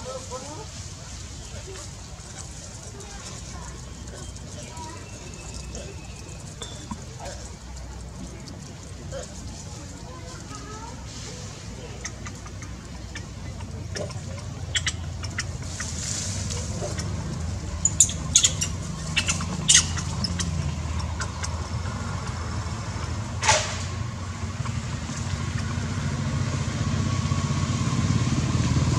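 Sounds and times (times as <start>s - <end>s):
low motor rumble: 0.0s - 28.9s.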